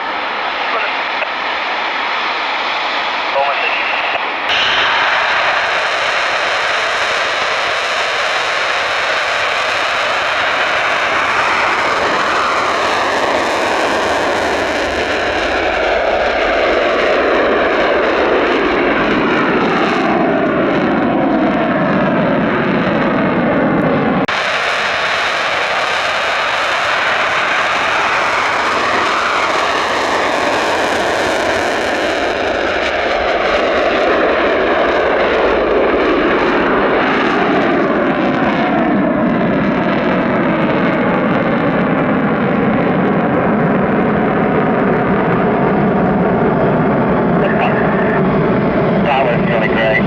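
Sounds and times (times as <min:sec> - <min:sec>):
jet engines passing: 0:00.0 - 0:50.0.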